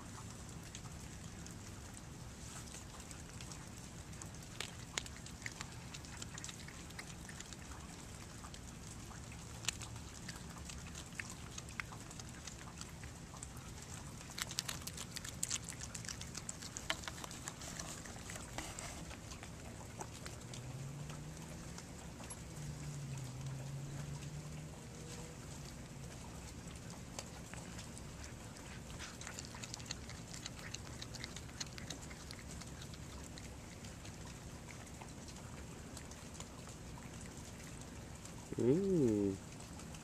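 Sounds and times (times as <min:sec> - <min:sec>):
cat chewing and crunching: 0:00.0 - 0:40.0.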